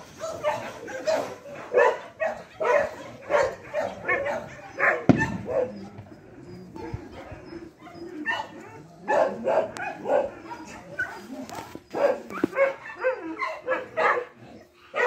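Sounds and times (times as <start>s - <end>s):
dog barking: 0.1s - 5.9s, 6.8s - 15.0s.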